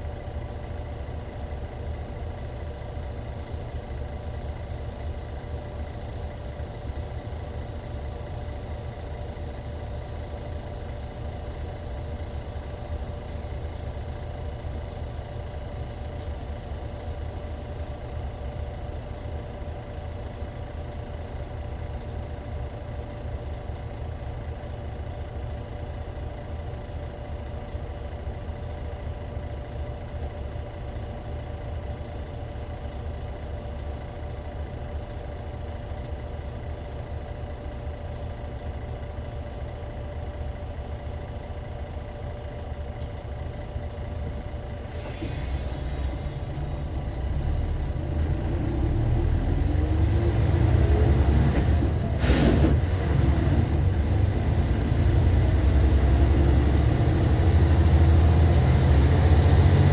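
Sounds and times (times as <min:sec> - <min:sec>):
bus diesel engine running: 0:00.0 - 0:59.9
constant engine whine: 0:00.0 - 0:59.9.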